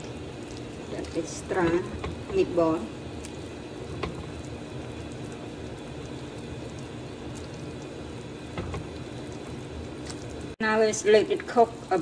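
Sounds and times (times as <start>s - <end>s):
soup simmering and bubbling: 0.0s - 10.6s.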